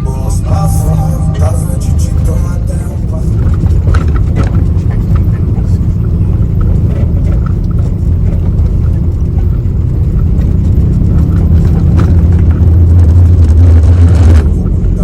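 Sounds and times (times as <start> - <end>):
car stereo bass booming: 0.0 - 15.0
vehicle driving rumble: 0.0 - 15.0.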